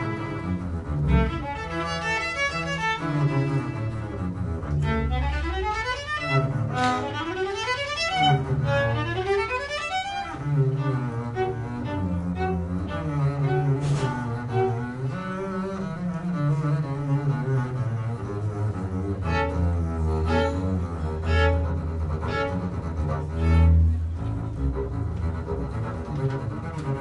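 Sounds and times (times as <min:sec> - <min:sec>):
double bass playing: 0:00.0 - 0:27.0
viola playing: 0:00.0 - 0:27.0.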